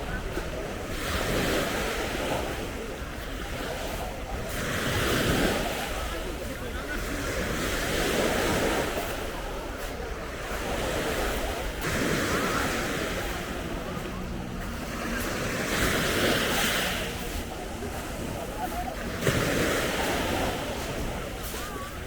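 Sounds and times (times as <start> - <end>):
sea waves breaking: 0.0 - 22.0.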